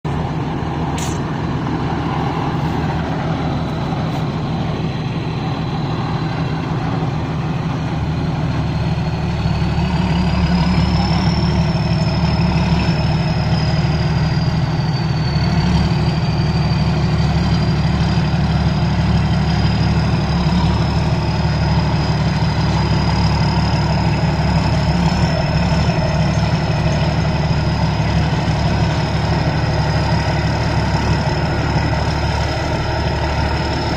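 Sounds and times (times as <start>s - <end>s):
combine harvester engine hum: 0.0s - 33.9s.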